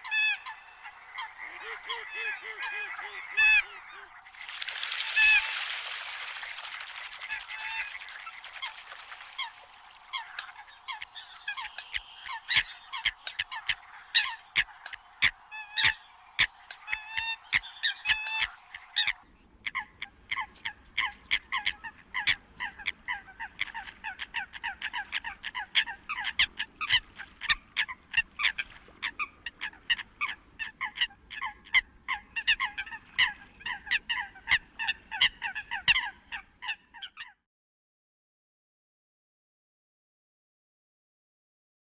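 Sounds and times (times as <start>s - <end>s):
coots calling: 0.0s - 4.4s, 7.2s - 37.3s.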